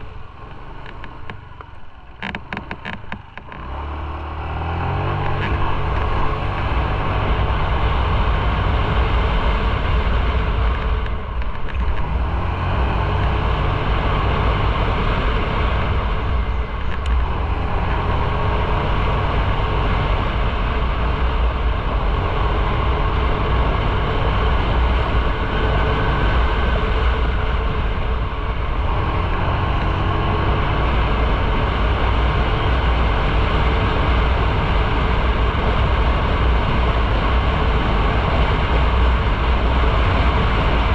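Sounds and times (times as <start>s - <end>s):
motorcycle engine running: 0.0s - 40.9s
wind rush on microphone: 4.4s - 40.9s.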